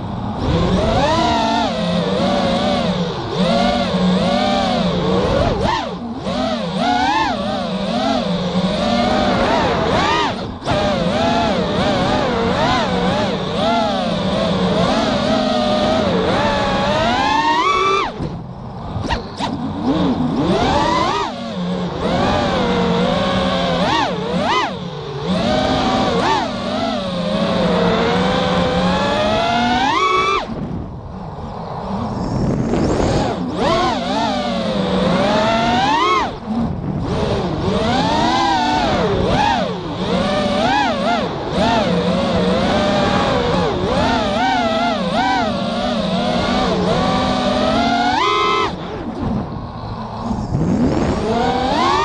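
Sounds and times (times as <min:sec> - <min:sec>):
drone motors whining: 0:00.0 - 0:52.0.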